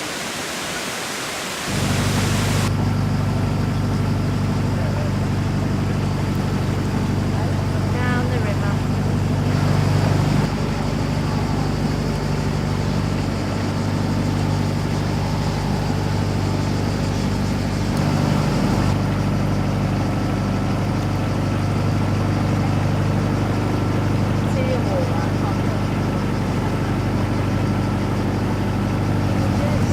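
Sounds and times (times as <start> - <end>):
vehicle engine running: 1.7 - 29.9.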